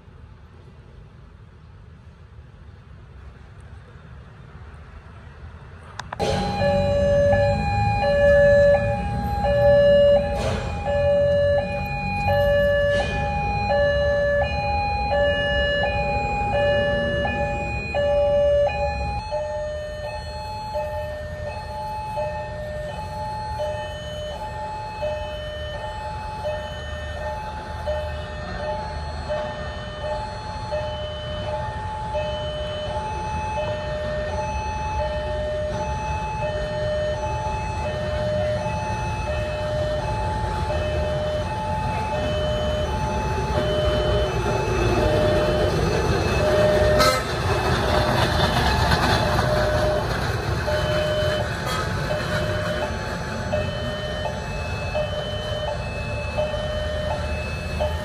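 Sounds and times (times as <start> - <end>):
low road traffic rumble: 0.0 - 58.0
level crossing two-tone alarm: 6.2 - 58.0.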